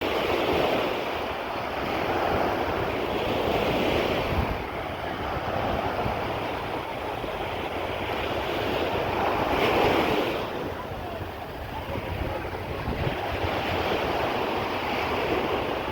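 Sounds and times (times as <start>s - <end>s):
waves washing onto shore: 0.0s - 15.9s
wind rumbling on microphone: 0.0s - 15.9s.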